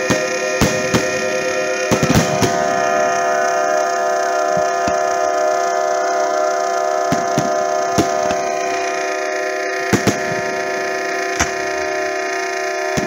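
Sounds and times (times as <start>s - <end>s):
fireworks banging: 0.0s - 13.0s
steady droning tone: 0.0s - 13.0s.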